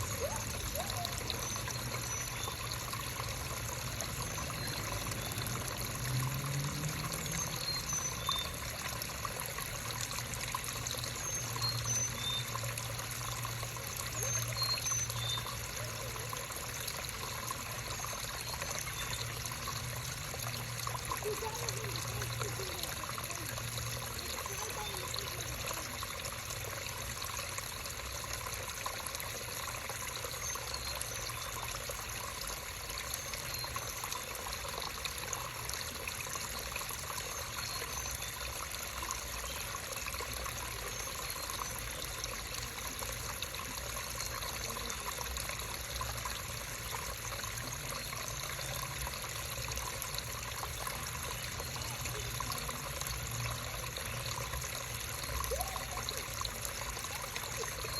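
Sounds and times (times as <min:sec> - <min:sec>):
creek babbling over rocks: 0:00.0 - 0:57.9.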